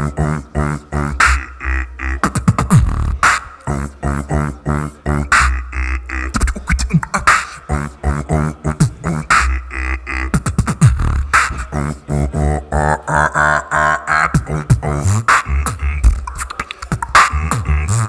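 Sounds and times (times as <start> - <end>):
buzzing vocal bass notes: 0.0 - 18.0
person beatboxing: 0.0 - 18.0.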